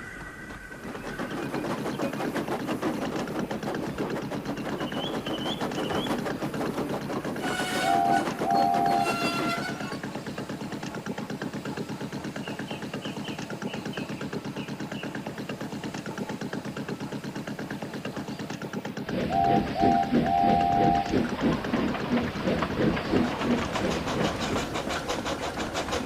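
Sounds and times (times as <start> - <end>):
steam locomotive chuffing: 0.0 - 26.0.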